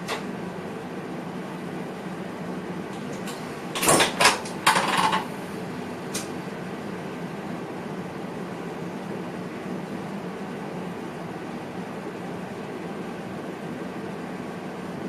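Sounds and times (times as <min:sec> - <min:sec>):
train cab running hum: 0:00.0 - 0:15.0.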